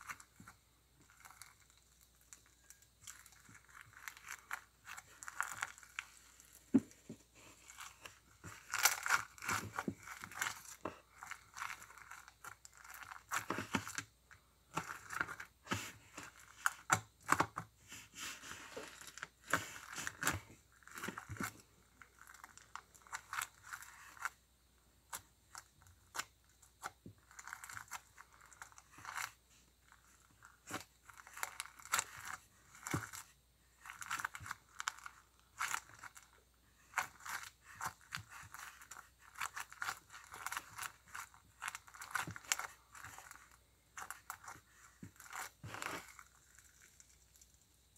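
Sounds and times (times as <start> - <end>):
crunchy slime crackling and popping: 0.0 - 6.8, 7.6 - 15.6, 18.8 - 24.4, 25.1 - 47.9.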